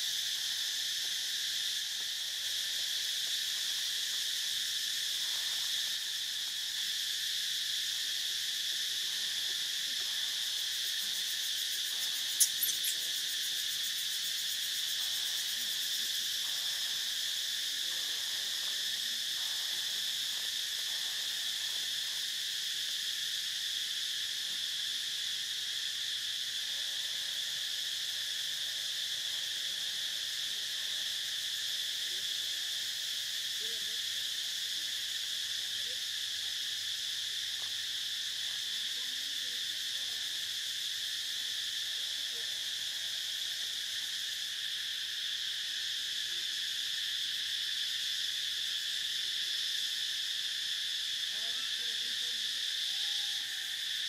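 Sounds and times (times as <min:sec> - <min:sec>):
insect chorus buzzing and trilling: 0:00.0 - 0:54.0.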